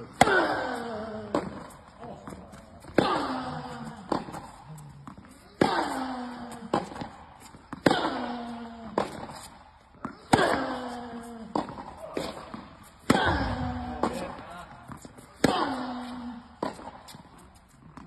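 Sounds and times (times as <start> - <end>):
tennis racket striking ball: 0.1 - 18.0.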